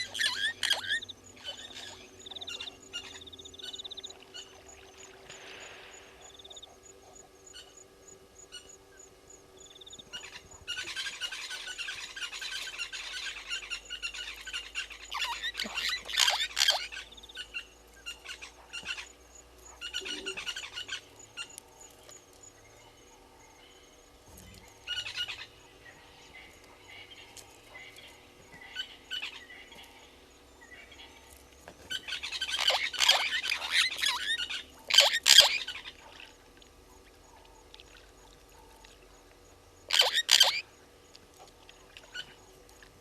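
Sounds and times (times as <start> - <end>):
wild birds chattering: 0.0 - 43.0.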